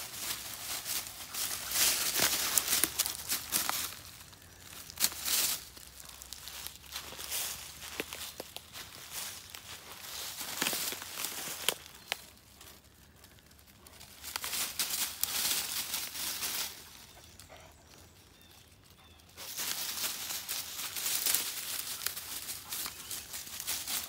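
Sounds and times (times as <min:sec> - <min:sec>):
dogs scrambling through dry leaves: 0:00.0 - 0:24.0.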